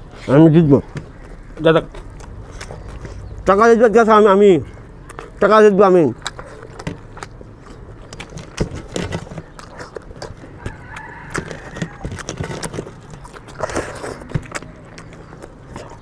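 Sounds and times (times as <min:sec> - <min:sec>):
chewing and mouth smacks: 0:00.0 - 0:16.0.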